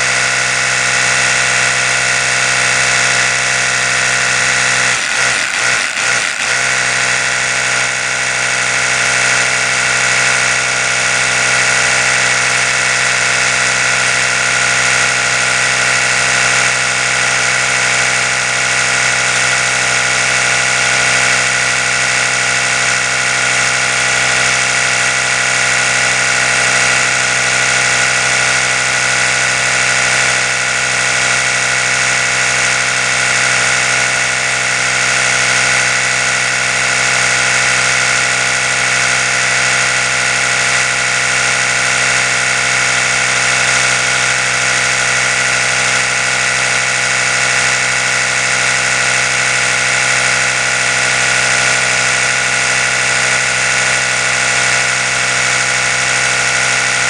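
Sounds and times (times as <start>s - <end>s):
electric toothbrush buzzing: 0.0s - 57.0s.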